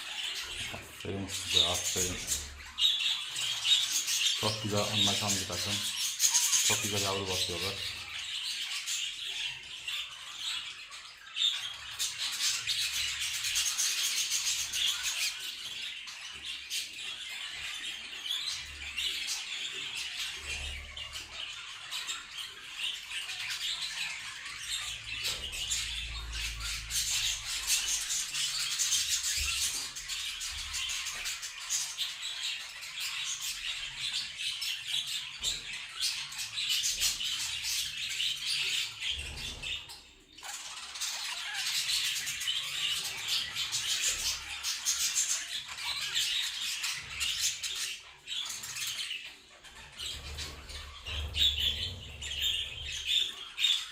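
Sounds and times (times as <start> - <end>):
budgerigars chirping: 0.0 - 53.9.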